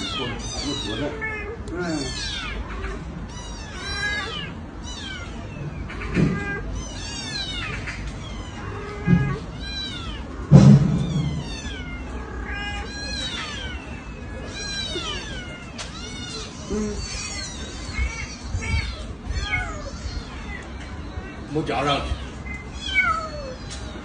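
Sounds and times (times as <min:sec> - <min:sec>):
kittens mewing: 0:00.0 - 0:24.0
louder lower kitten cry: 0:00.0 - 0:24.0.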